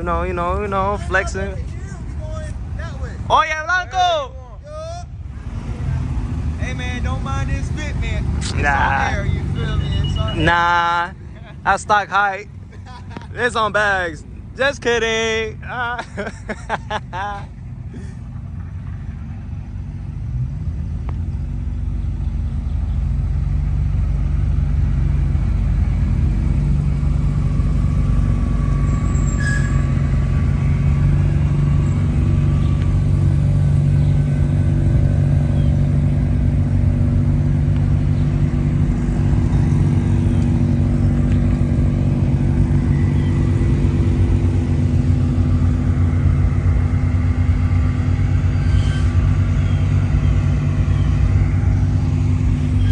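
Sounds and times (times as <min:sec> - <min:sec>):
car engine running: 0:00.0 - 0:52.9.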